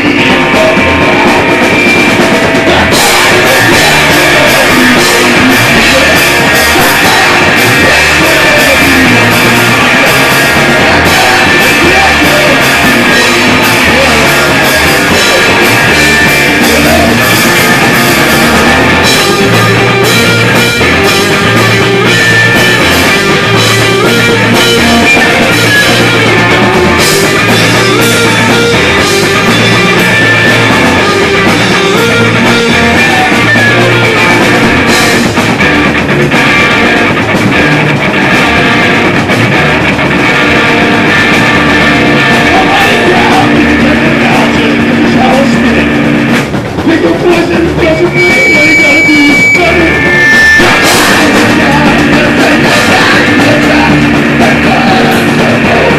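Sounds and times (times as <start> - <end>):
man singing: 0.0 - 35.3, 42.2 - 46.2, 46.8 - 55.9
bass guitar: 0.0 - 55.9
drum kit: 0.0 - 55.9
electric guitar: 0.0 - 55.9.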